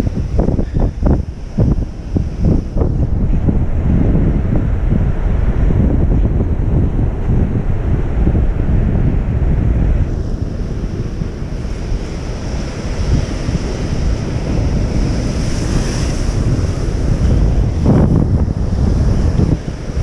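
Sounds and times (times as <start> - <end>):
surf washing against rocks: 0.0 - 20.0
wind buffeting microphone: 0.0 - 20.0.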